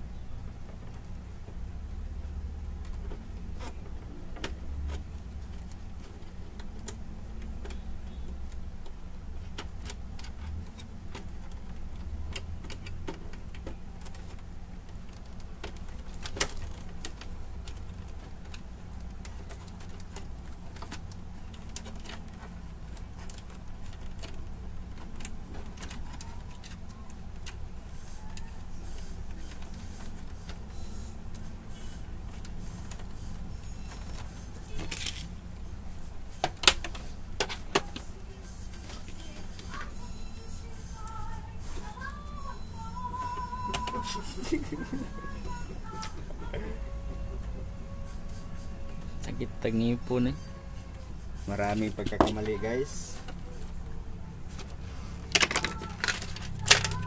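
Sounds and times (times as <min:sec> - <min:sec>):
steady low hum: 0:00.0 - 0:57.0
plastic parts clicking: 0:02.6 - 0:39.9, 0:45.8 - 0:57.0.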